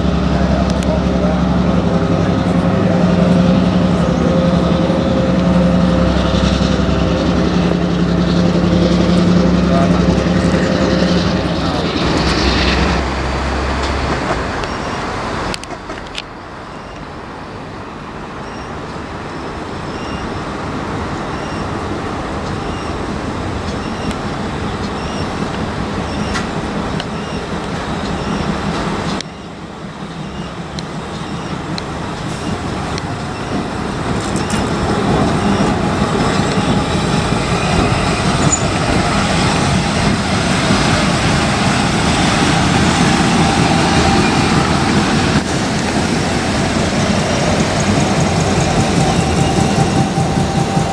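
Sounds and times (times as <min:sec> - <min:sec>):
diesel locomotive engine humming: 0:00.0 - 0:50.9
train wheels rumbling on rails: 0:00.0 - 0:50.9.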